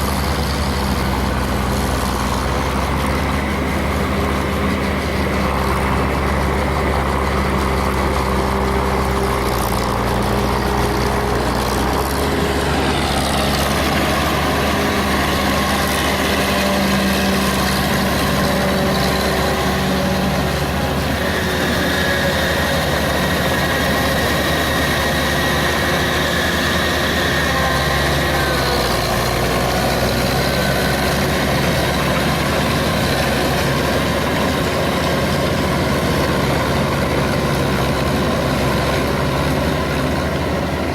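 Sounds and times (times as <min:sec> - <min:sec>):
ploughing machine engine running: 0:00.0 - 0:40.9.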